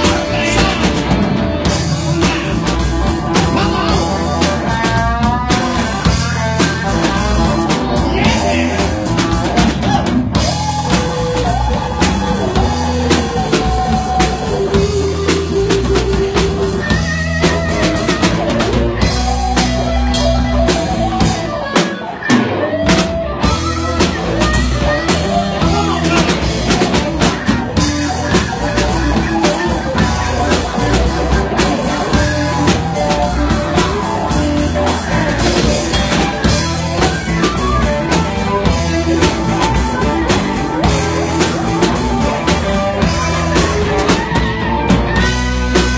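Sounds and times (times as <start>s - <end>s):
blues-rock band playing: 0.0s - 45.9s
electric guitar lead bends: 0.0s - 45.9s.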